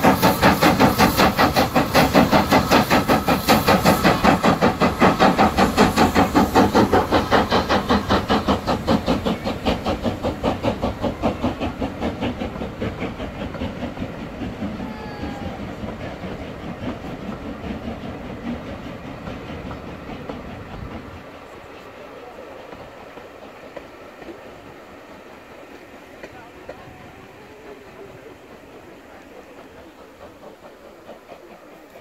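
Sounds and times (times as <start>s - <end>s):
steam locomotive exhaust beats: 0.0s - 32.0s.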